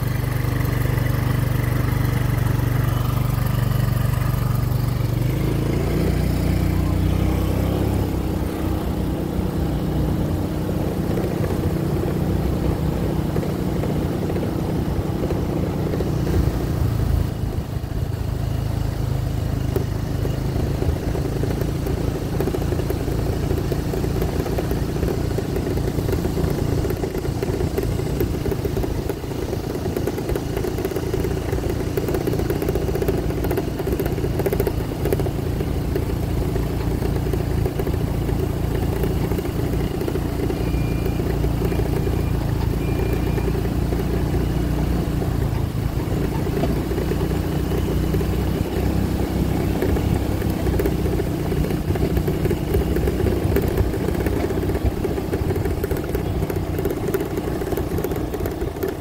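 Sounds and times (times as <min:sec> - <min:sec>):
motorbike engine running: 0:00.0 - 0:59.0
road and wind noise: 0:00.0 - 0:59.0.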